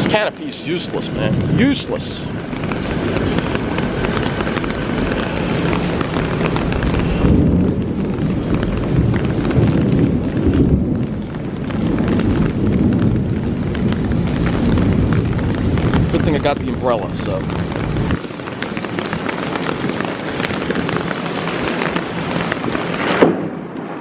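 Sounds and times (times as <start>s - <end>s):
heavy rain pouring: 0.0s - 24.0s
raindrops pattering on hard surfaces: 0.0s - 24.0s
thunder rumble: 0.0s - 24.0s.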